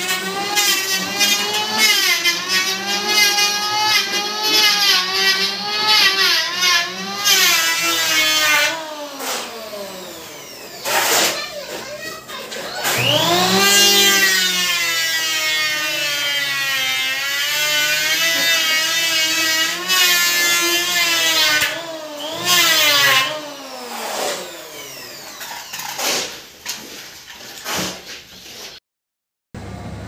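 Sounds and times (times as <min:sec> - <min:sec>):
electric planer cutting wood: 0:00.0 - 0:11.5, 0:12.5 - 0:26.3.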